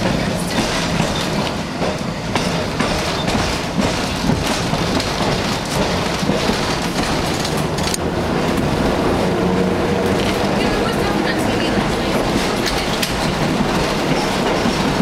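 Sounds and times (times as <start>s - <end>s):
wheels clicking over rail joints: 0.0s - 8.7s, 10.0s - 15.0s
rumble of wheels on track: 0.0s - 15.0s.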